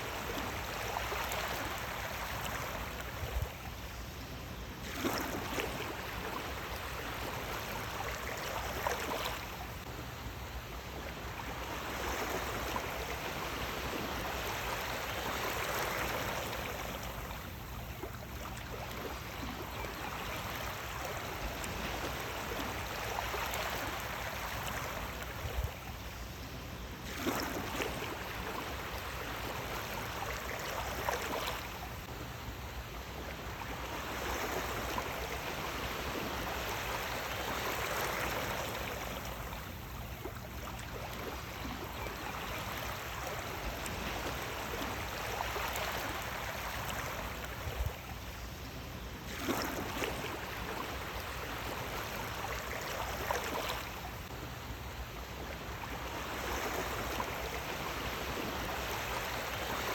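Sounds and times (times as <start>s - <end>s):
sea waves breaking on shore: 4.4s - 59.9s.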